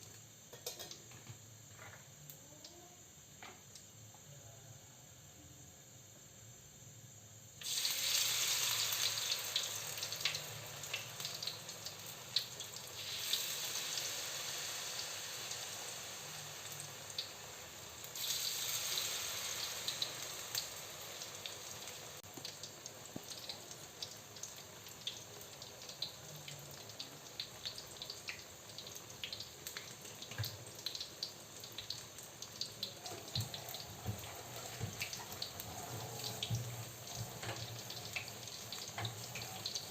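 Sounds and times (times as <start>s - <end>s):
food sizzling in hot oil: 7.6s - 39.9s.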